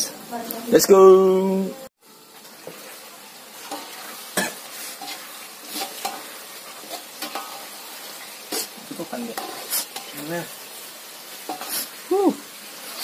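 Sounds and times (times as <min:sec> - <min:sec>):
sauce sizzling in a wok: 0:00.0 - 0:13.0.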